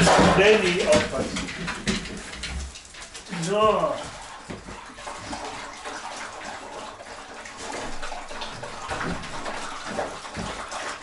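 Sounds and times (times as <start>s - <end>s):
dogs lapping and slurping: 0.0s - 11.0s.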